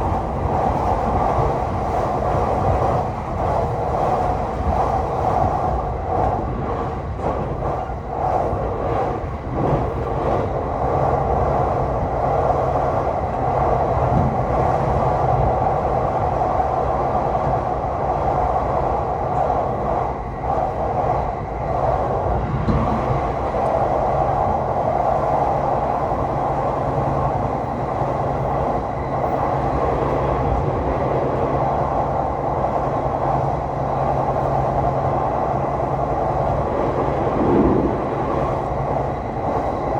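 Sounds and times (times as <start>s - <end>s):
constant drone: 0.0s - 39.9s
train wheels rumbling on rail: 0.0s - 39.9s.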